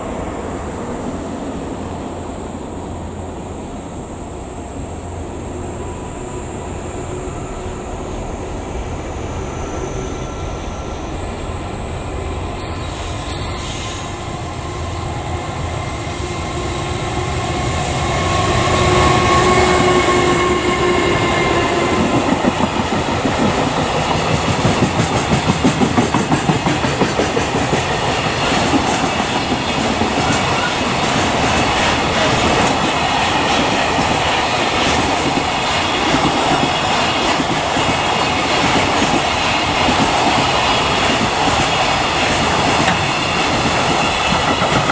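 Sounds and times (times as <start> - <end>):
freight train passing: 0.0 - 44.9
locomotive whine: 0.0 - 44.9.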